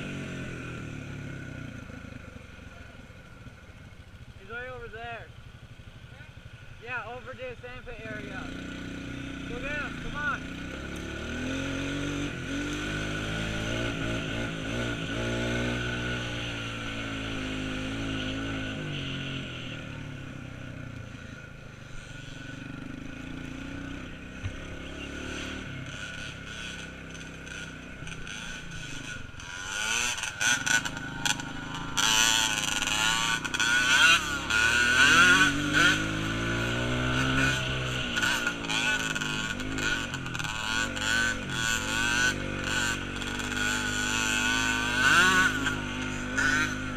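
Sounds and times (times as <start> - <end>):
small off-road engine revving: 0.0 - 46.9.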